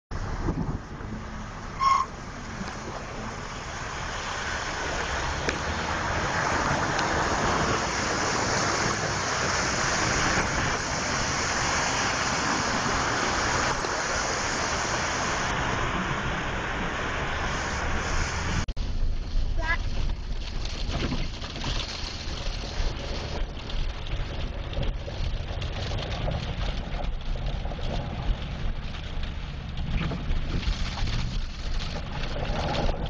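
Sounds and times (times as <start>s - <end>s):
car tyres splashing through water: 0.1s - 33.0s
heavy rain: 0.2s - 33.0s.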